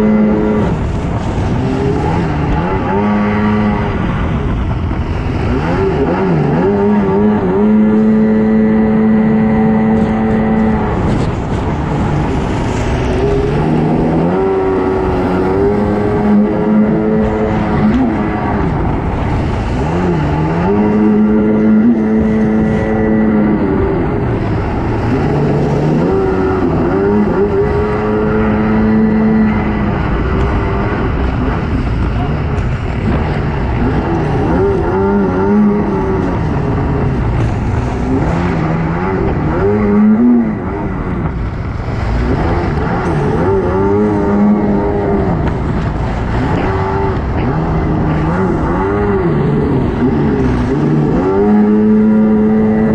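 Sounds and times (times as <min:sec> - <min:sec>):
jet ski engine revving: 0:00.0 - 0:52.9
water spray rushing: 0:00.0 - 0:52.9.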